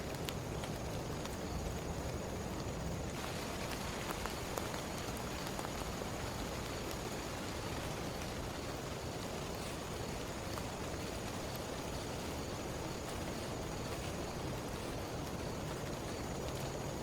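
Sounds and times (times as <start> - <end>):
heavy rain hissing: 0.0 - 17.0
rain drop ticks: 0.0 - 17.0.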